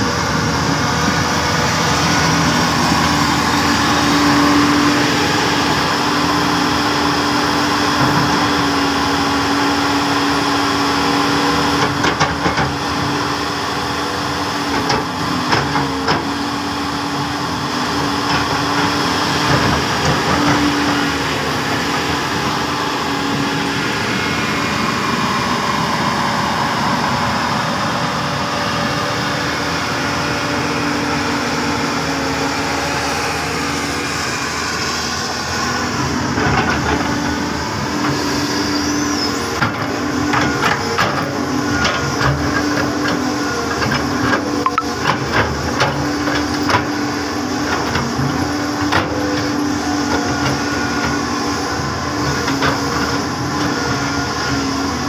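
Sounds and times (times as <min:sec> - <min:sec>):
excavator engine and hydraulics humming: 0:00.0 - 0:55.0.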